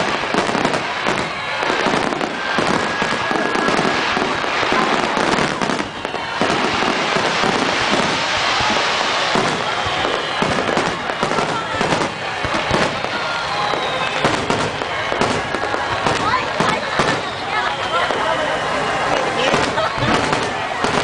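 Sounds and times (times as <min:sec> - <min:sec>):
firework whistle: 0:00.0 - 0:18.8
fireworks crackling and popping: 0:00.0 - 0:21.0.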